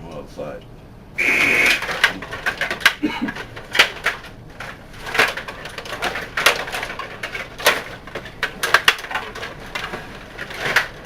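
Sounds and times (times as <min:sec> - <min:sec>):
puck clicking and knocking: 0:01.7 - 0:11.0.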